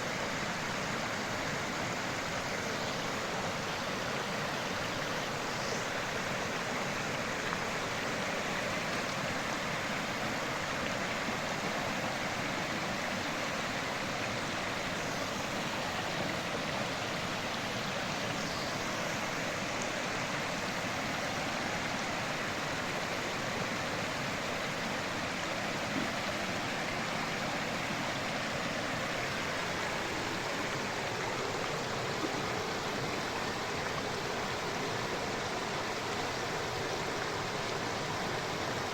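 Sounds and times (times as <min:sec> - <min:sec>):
water running over rocks: 0:00.0 - 0:38.9.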